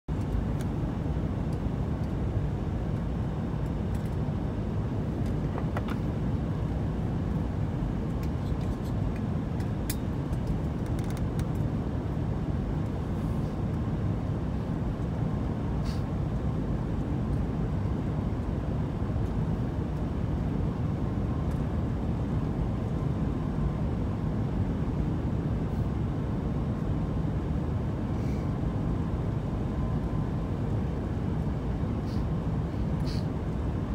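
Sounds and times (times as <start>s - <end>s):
aircraft cabin rumble: 0.1s - 33.9s.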